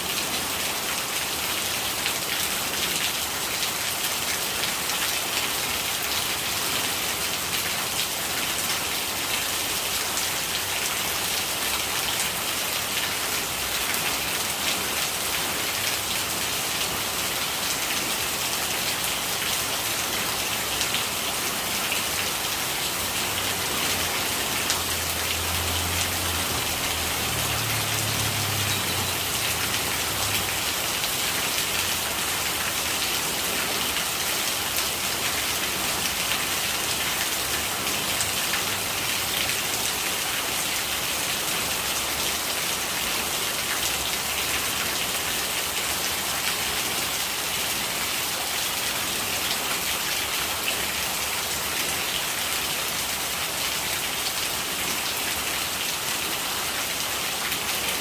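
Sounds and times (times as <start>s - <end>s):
rainwater gurgling: 0.0s - 58.0s
steady rain falling: 0.0s - 58.0s.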